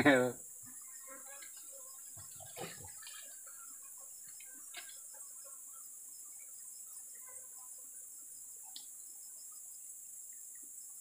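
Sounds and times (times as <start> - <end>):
high-pitched insects chorus: 0.0 - 11.0.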